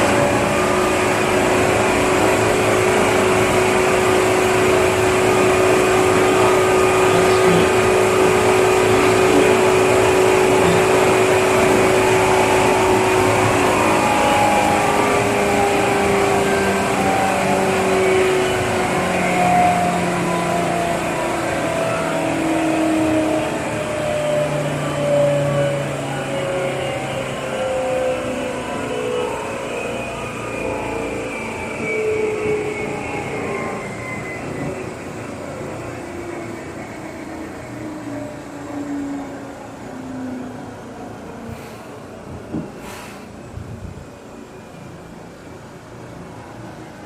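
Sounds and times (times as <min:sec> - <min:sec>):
train rolling noise: 0:00.0 - 0:47.0.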